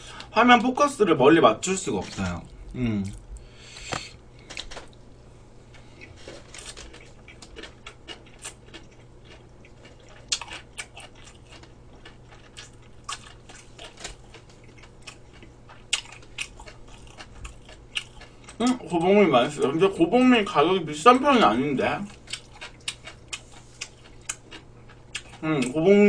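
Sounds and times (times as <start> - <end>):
person chewing food: 2.0 - 19.7, 22.0 - 25.8.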